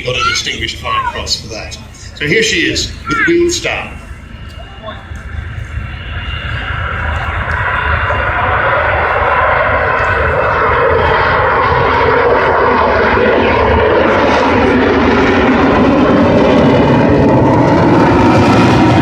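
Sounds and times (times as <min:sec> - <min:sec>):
jet bomber roaring past: 0:00.0 - 0:19.0.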